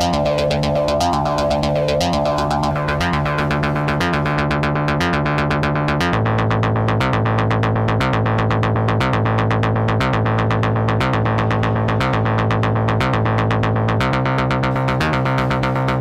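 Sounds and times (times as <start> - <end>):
synthesizer bass note: 0.0 - 16.0
synthesizer sequencer notes: 0.0 - 16.0.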